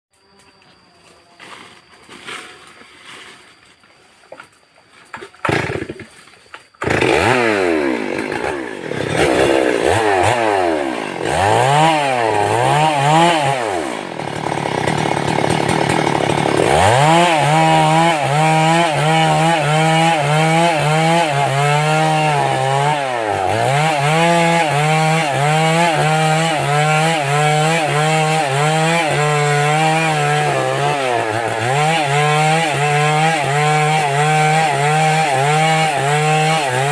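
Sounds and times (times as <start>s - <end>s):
chainsaw revving and running: 5.4s - 6.1s, 6.8s - 36.9s.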